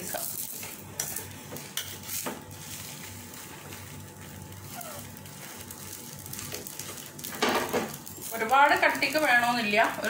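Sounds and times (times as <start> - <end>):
dosa sizzling in a pan: 0.0 - 10.0.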